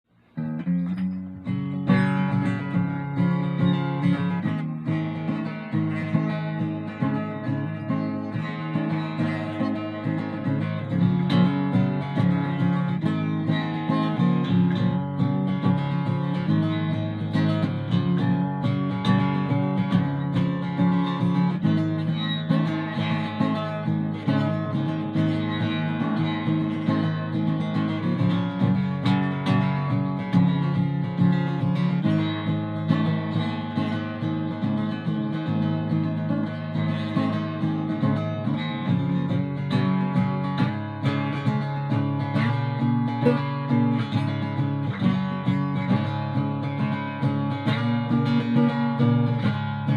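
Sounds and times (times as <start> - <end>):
acoustic guitar strumming chords: 0.1 - 49.9.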